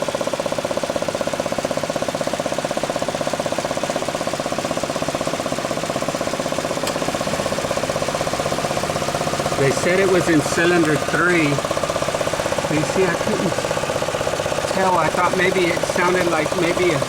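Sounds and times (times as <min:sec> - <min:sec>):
car engine running: 0:00.0 - 0:17.0
rapid puttering engine knock: 0:00.0 - 0:17.0.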